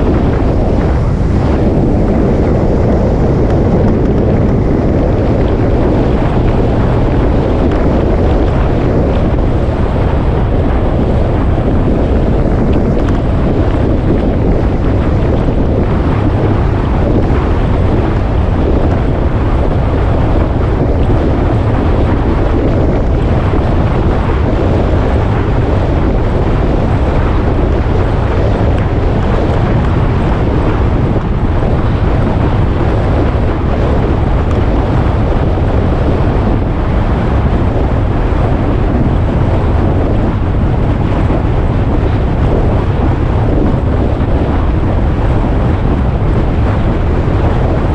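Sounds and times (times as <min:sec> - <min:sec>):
wind buffeting on microphone: 0:00.0 - 0:47.9.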